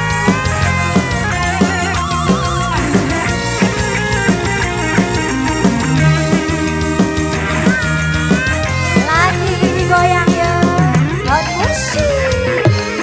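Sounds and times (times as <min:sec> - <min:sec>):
lead melody with vibrato: 0:00.0 - 0:12.7
heavy bass line: 0:00.0 - 0:12.8
drum kit beat: 0:00.0 - 0:13.0
live band over loudspeakers: 0:00.0 - 0:13.0.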